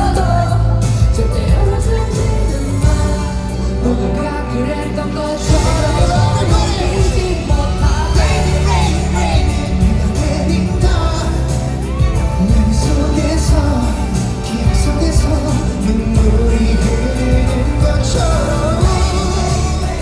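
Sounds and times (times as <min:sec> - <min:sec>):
loud backing track with heavy bass: 0:00.0 - 0:20.0
person singing: 0:00.0 - 0:20.0.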